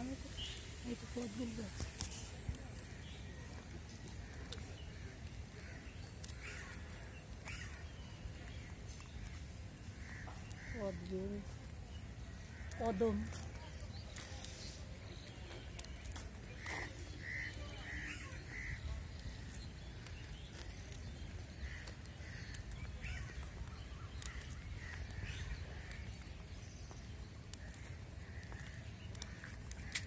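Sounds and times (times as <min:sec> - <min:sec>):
birds calling: 0:00.0 - 0:30.0.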